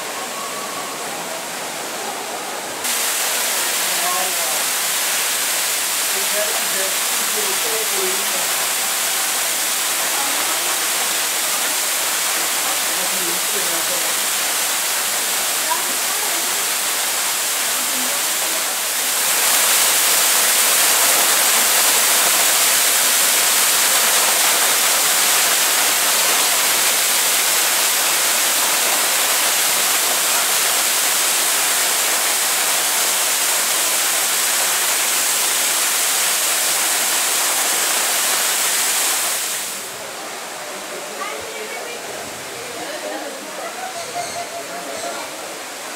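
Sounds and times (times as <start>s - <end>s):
rushing water of waterfall: 0.0s - 45.9s.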